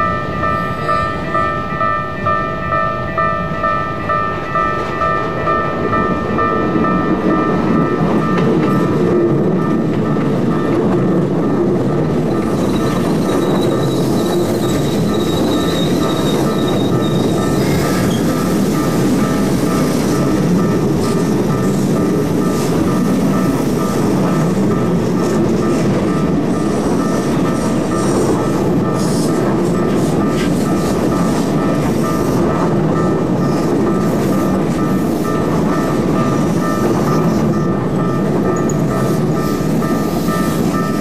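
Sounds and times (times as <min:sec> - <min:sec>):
train rumbling past: 0:00.0 - 0:41.0.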